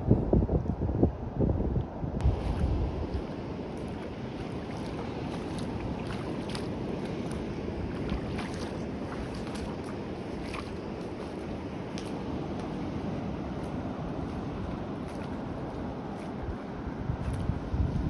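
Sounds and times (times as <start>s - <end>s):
sea water washing on shore: 2.2s - 18.0s.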